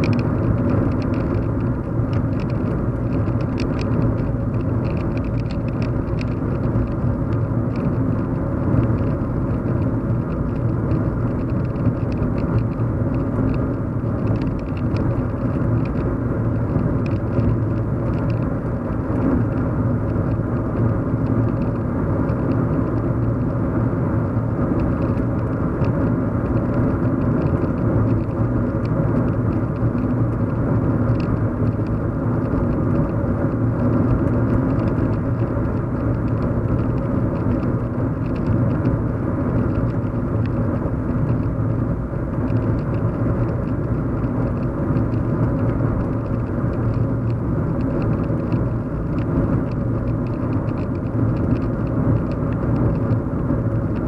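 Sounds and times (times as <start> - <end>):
car engine and tyre drone: 0.0 - 54.0
light ticks and rattles: 0.0 - 54.0.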